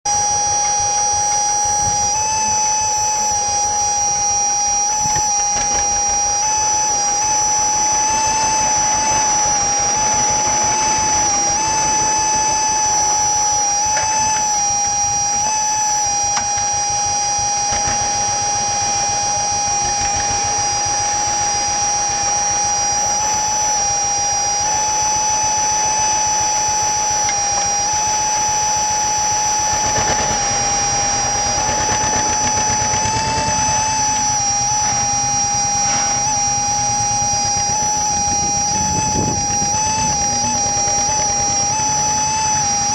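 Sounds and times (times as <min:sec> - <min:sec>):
steady high whine: 0:00.0 - 0:42.9
tractor engine running: 0:00.0 - 0:42.9.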